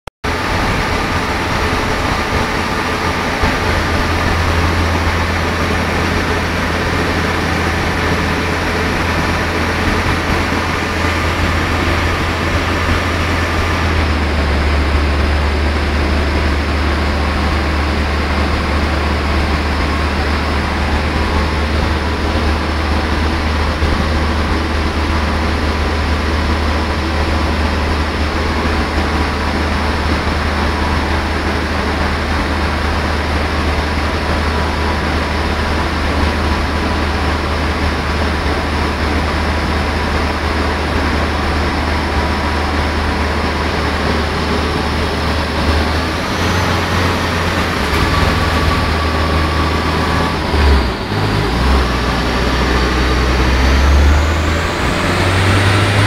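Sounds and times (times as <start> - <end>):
car engine running under load: 0.2 - 56.0
hum of rollers: 0.3 - 56.0.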